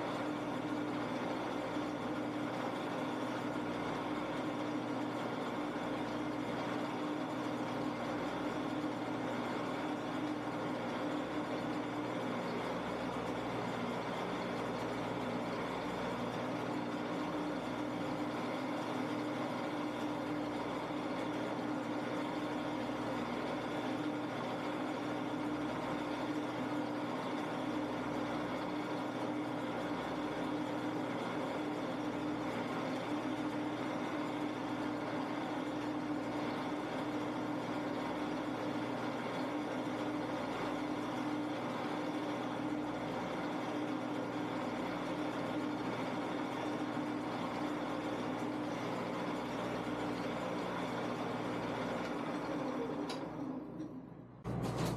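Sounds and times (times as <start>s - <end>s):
lathe motor humming: 0.0s - 54.9s.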